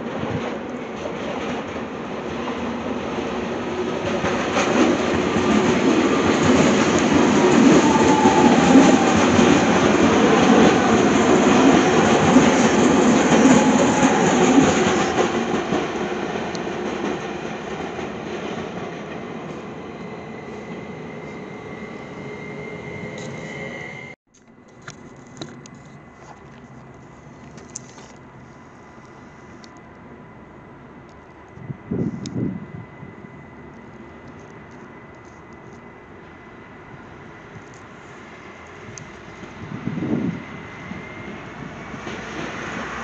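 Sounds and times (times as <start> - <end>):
train passing on tracks: 0.0 - 43.0.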